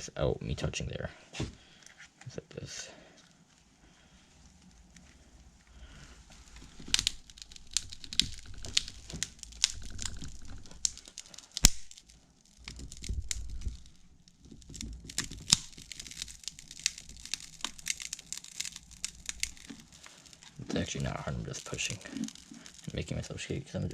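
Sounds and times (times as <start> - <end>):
cracked phone body crackling: 3.2 - 23.2.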